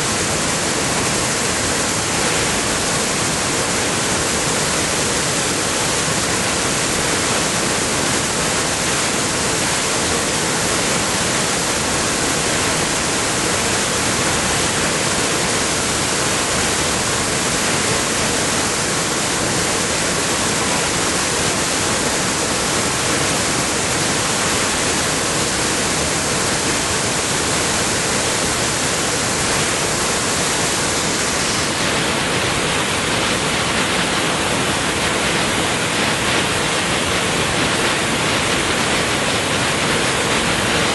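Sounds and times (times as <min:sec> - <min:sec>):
whitewater rushing over rapids: 0:00.0 - 0:40.9.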